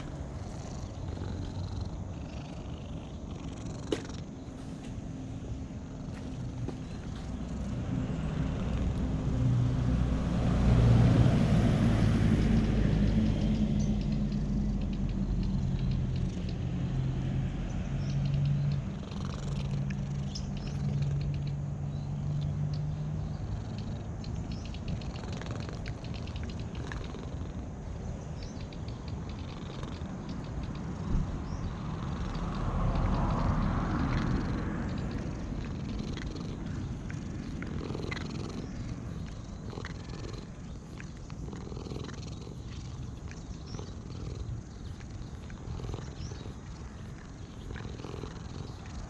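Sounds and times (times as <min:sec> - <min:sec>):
cat purring: 0:00.0 - 0:17.4, 0:18.2 - 0:49.0.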